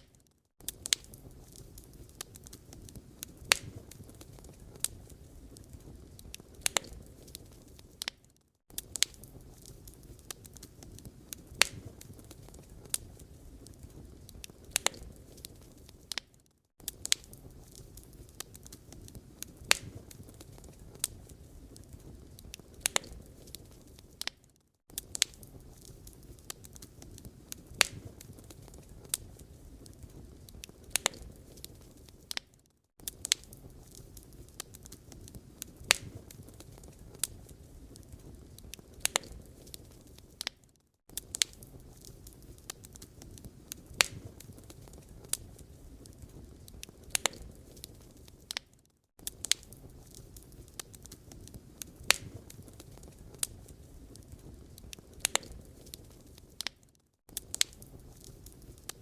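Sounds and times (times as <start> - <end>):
wood fire crackling: 0.0 - 59.0
low rumble of burning logs: 0.6 - 56.7, 57.3 - 59.0.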